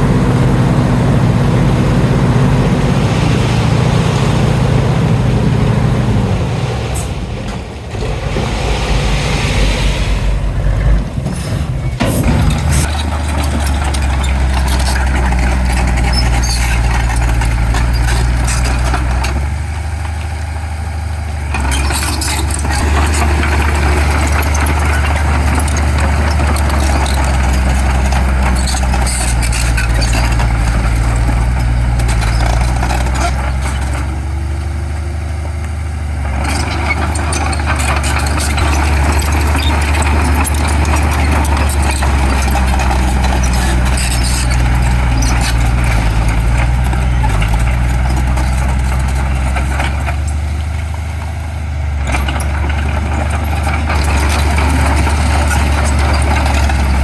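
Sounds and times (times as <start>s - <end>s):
heavy diesel engine running: 0.0s - 57.0s
machinery clattering: 0.9s - 20.4s, 21.4s - 51.0s, 52.0s - 57.0s.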